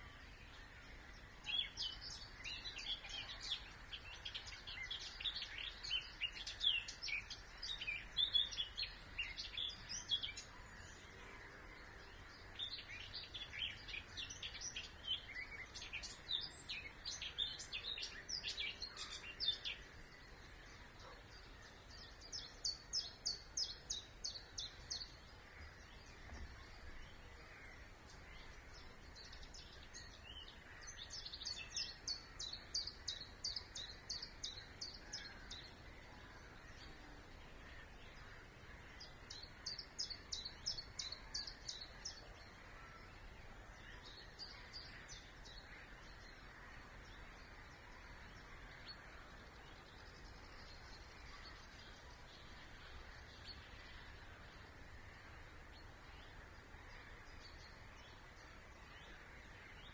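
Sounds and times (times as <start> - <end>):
faint distant birdsong: 0.0 - 59.9.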